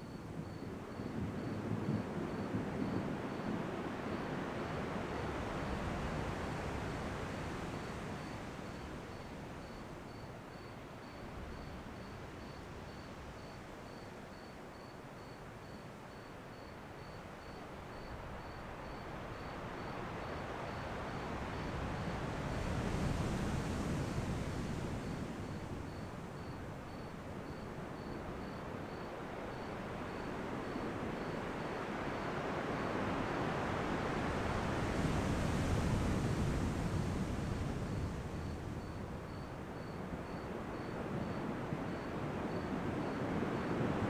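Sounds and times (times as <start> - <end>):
ocean waves washing ashore: 0.0 - 14.3, 16.0 - 44.0.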